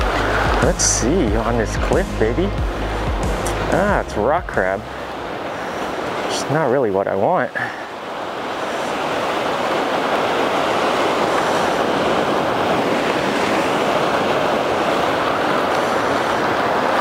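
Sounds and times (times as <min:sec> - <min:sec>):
surf breaking against rocks: 0:00.0 - 0:17.0.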